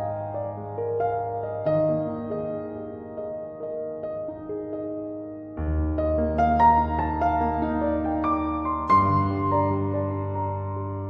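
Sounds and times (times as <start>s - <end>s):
soft piano background music: 0.0s - 11.0s.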